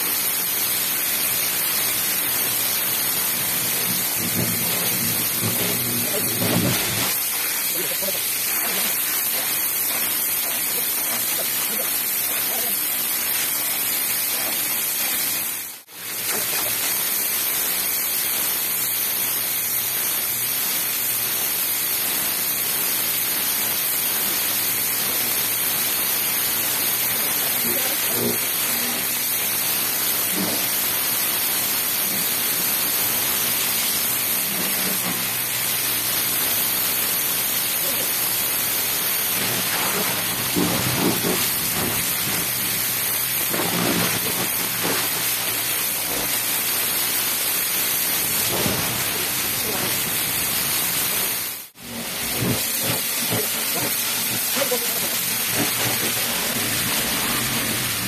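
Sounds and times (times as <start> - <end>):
pressure washer spraying: 0.0 - 58.0.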